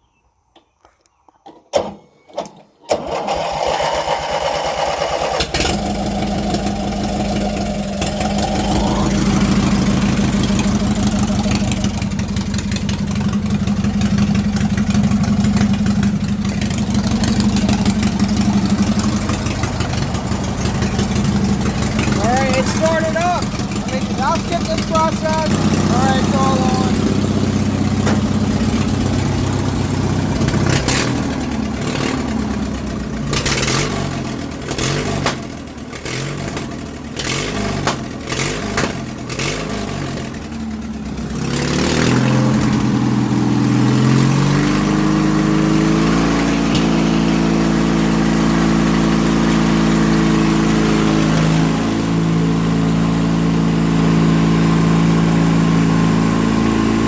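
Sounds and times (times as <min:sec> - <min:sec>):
riding mower engine running: 0:01.7 - 0:57.0.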